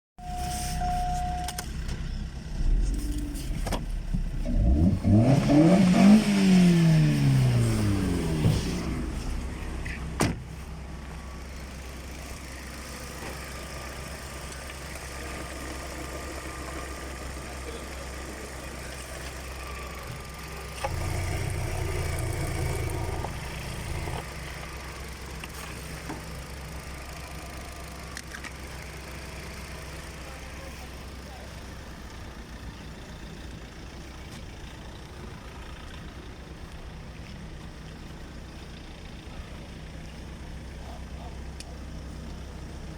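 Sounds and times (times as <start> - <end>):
car engine idling and revving: 0.2 - 42.9.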